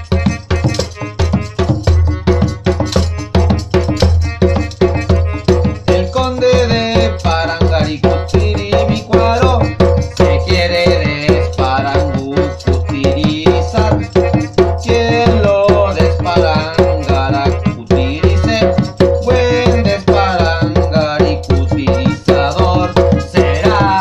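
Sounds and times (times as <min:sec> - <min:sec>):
hand drum struck with palms: 0:00.0 - 0:24.0
melodica playing a melody: 0:00.0 - 0:24.0.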